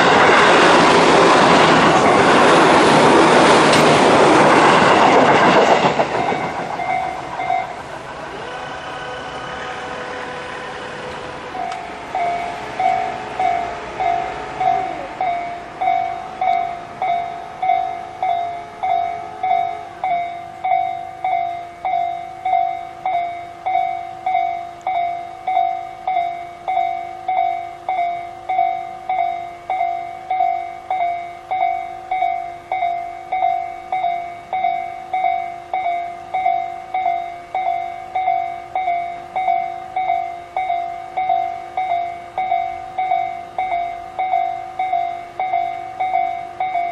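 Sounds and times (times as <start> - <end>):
passing train rolling: 0.0 - 46.9
level-crossing alarm tone: 4.9 - 46.9.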